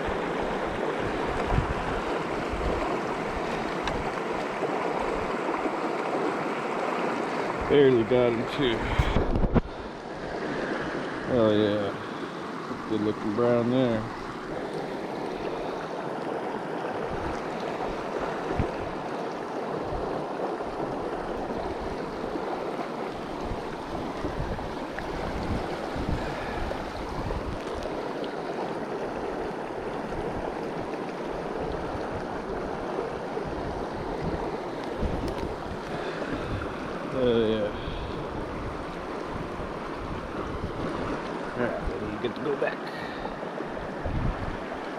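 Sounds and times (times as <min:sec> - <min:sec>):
water running over rocks: 0:00.0 - 0:44.9.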